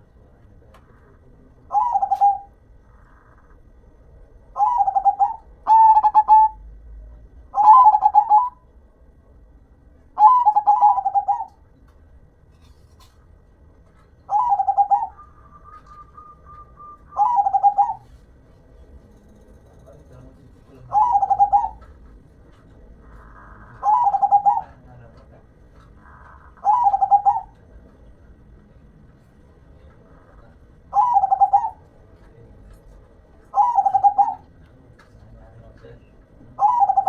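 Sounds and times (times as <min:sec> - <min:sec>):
dove cooing: 0:00.0 - 0:03.6, 0:04.5 - 0:06.8, 0:07.4 - 0:08.7, 0:10.2 - 0:11.6, 0:13.9 - 0:37.0
faint steady tone: 0:00.0 - 0:37.0.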